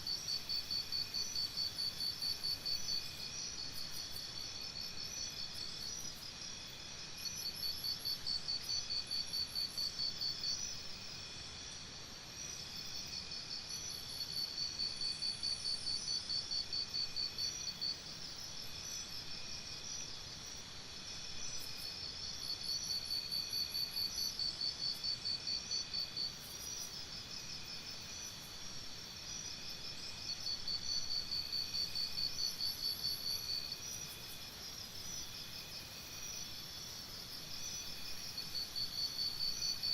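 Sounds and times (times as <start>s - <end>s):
insects buzzing drone: 0.0s - 39.9s.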